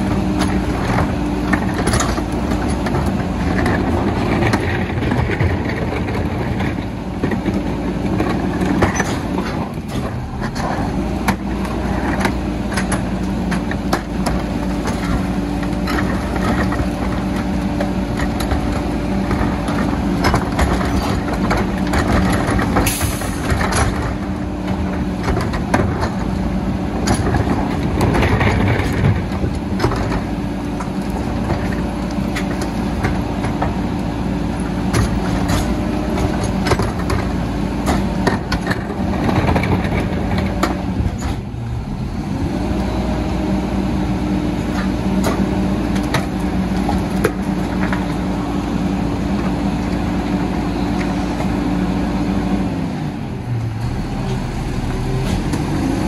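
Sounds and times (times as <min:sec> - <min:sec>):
trash thudding and clattering: 0:00.0 - 0:43.4, 0:44.0 - 0:51.6
garbage truck engine hum: 0:00.0 - 0:56.0.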